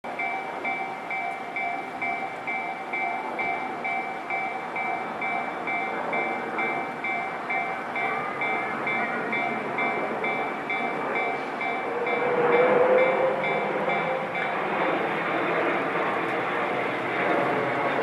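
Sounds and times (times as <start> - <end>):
level crossing bell ringing: 0.1 - 14.6
steady background noise: 0.1 - 18.0.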